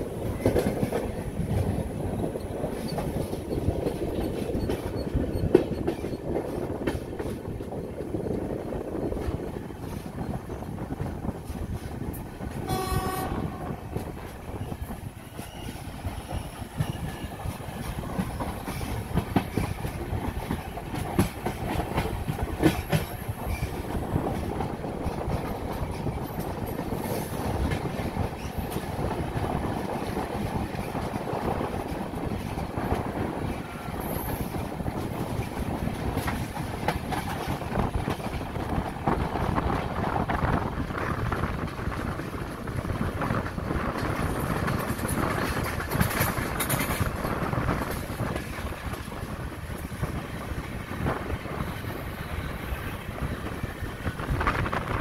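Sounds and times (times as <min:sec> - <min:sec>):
clack of rail joints: 0:00.0 - 0:55.0
train wheels rumbling on rails: 0:00.0 - 0:55.0.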